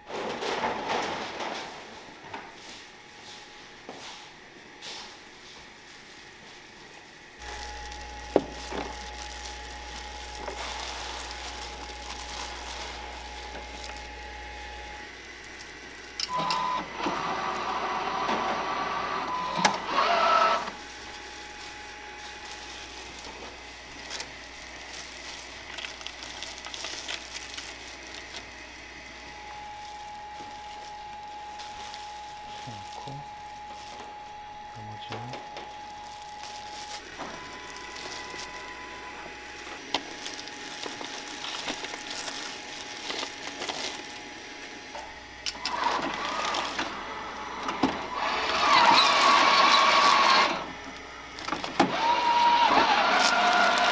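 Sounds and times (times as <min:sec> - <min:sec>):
faint steady hum: 0:00.0 - 0:52.6
machine motor and conveyor running: 0:00.0 - 0:53.9.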